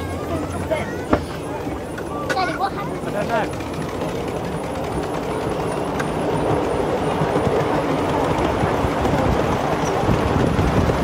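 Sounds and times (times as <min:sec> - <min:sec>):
miniature train wheels on rails: 0:00.0 - 0:11.0.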